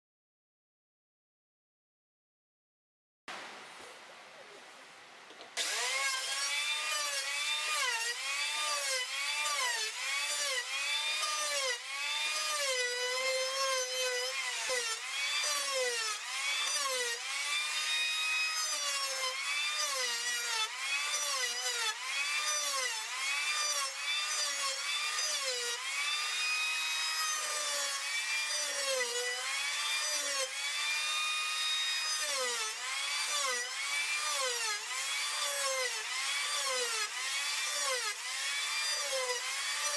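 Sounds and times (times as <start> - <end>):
electric hand planer cutting wood: 5.6 - 39.9.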